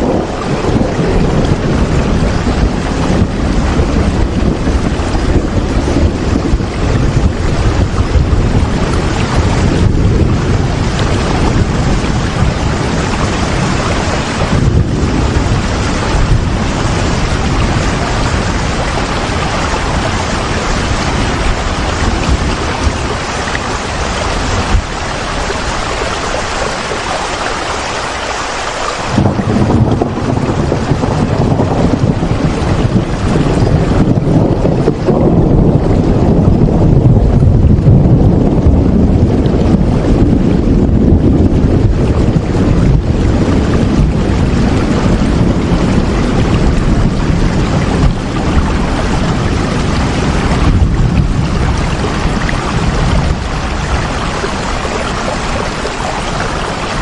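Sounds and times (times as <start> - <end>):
strong low rumble: 0.0 - 27.2, 29.1 - 57.0
steady rain hiss: 0.0 - 35.1, 43.3 - 57.0.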